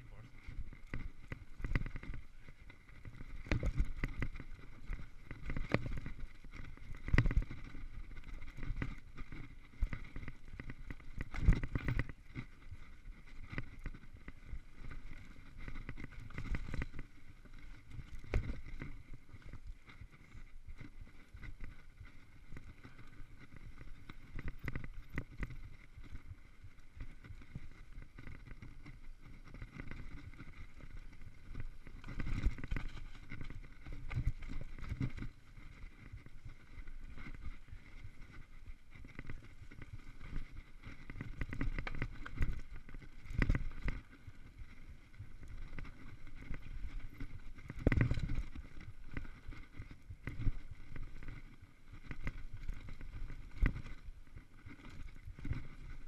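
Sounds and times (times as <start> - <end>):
bike rattling over bumps: 0.0 - 56.0
bike tyres crunching over trail: 0.0 - 56.0.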